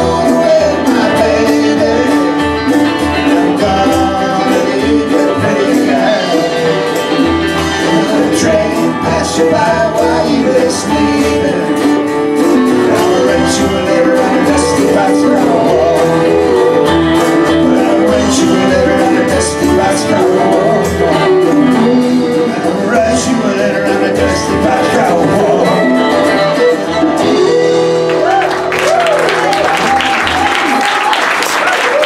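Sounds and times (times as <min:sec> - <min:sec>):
acoustic and electric guitars: 0:00.0 - 0:32.0
hand drums and percussion: 0:00.0 - 0:32.0
violin: 0:00.1 - 0:28.0.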